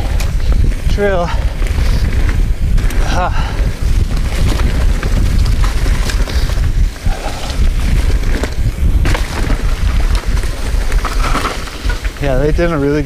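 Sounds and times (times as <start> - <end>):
bike clicks and rattles: 0.0 - 13.0
wind buffeting microphone: 0.0 - 13.0.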